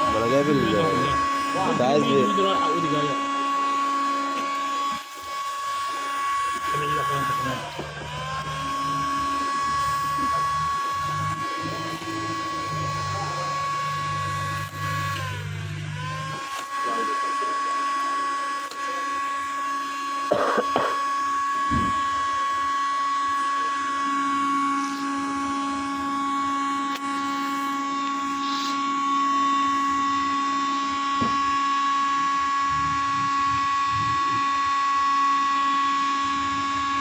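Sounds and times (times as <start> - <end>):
low hum: 0.0 - 37.0
power tool motor whining: 0.0 - 37.0.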